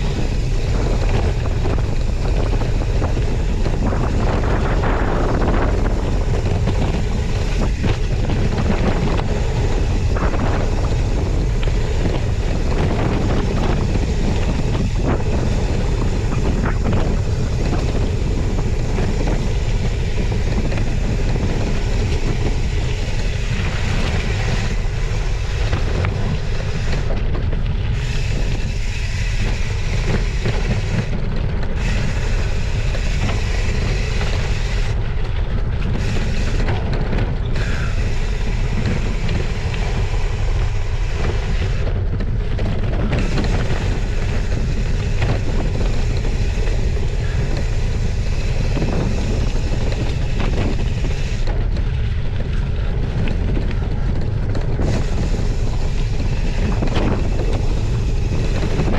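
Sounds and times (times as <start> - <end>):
bike knocks and rattles: 0.0 - 58.9
tyres rumbling on gravel: 0.0 - 58.9
wind rushing over microphone: 0.0 - 58.9.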